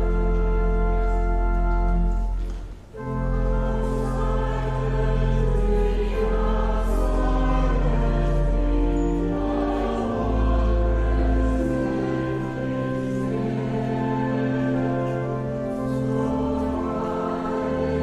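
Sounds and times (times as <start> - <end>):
organ chords: 0.0 - 18.0
voices singing church music: 0.0 - 18.0.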